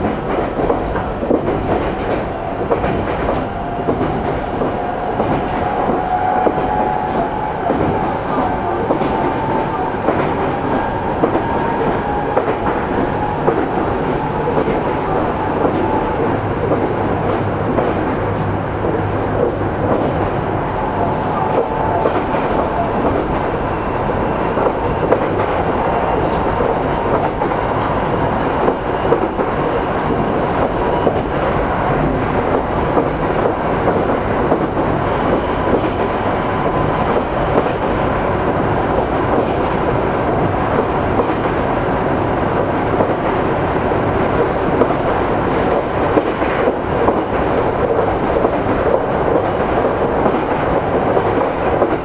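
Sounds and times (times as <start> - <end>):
electric train running: 0.0 - 43.4.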